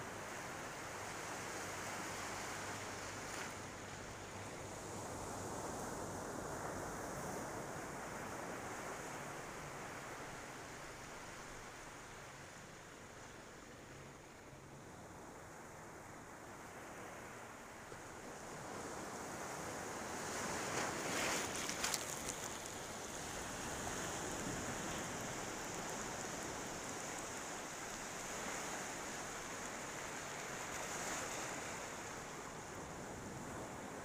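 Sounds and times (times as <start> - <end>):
small waves washing on beach: 0.0 - 34.0.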